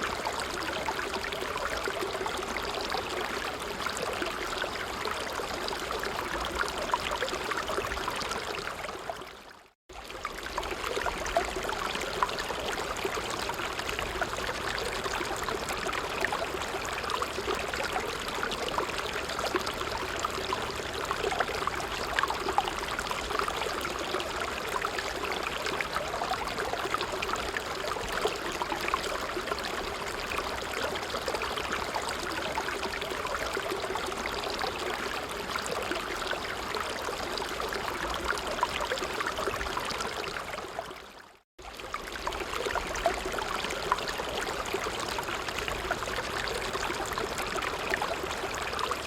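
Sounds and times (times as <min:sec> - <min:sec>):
creek water bubbling and splashing: 0:00.0 - 0:49.0.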